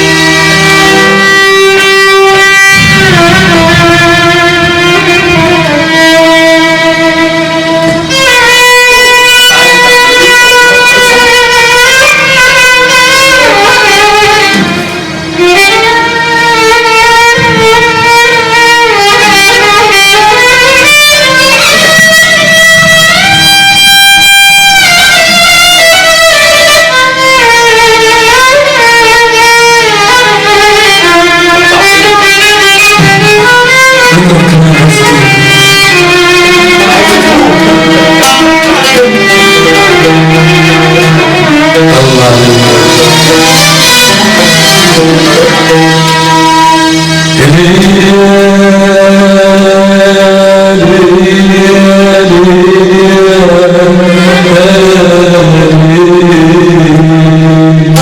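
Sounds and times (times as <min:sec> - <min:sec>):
instrumental band with sliding melody: 0:00.0 - 0:58.0
plucked string accompaniment: 0:00.0 - 0:58.0.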